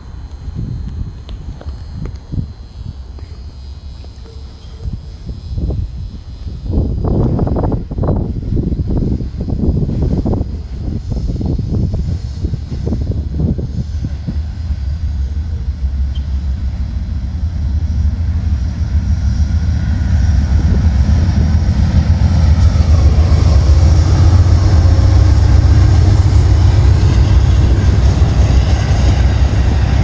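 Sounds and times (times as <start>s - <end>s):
diesel locomotive engine rumble: 0.0s - 30.0s
wheel-on-rail noise: 0.0s - 30.0s.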